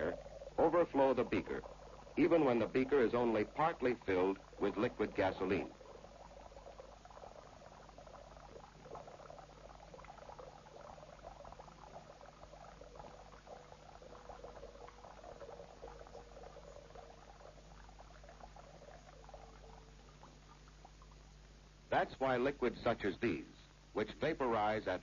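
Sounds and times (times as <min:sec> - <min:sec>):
film soundtrack crackle: 0:00.0 - 0:25.0
steady low hum: 0:00.0 - 0:25.0.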